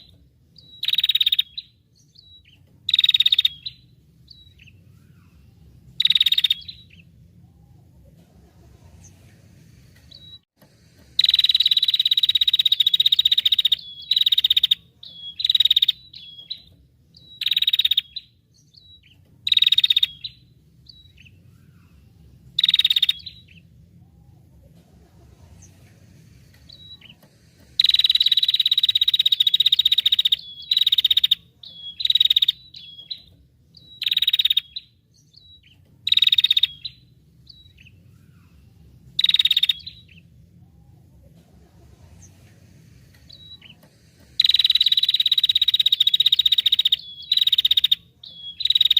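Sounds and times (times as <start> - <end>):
songbird singing buzzy bursts: 0.0 - 7.8, 8.8 - 48.9.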